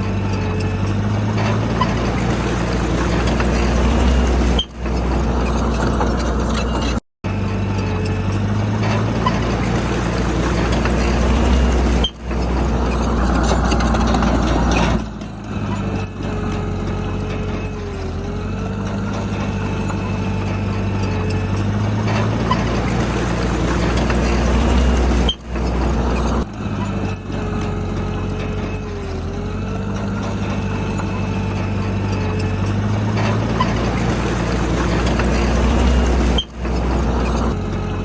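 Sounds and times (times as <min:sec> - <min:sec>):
diesel earthmoving machinery: 0:00.0 - 0:38.0.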